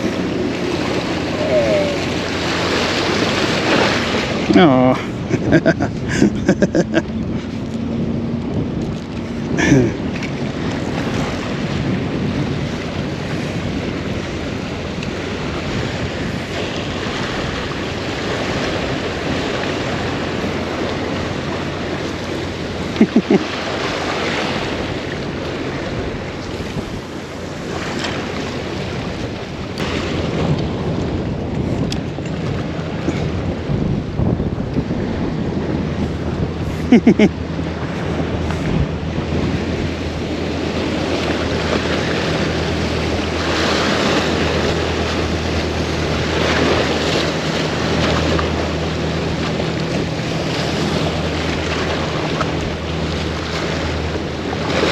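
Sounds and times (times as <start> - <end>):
surf washing: 0.0 - 54.9
wind buffeting microphone: 0.0 - 54.9.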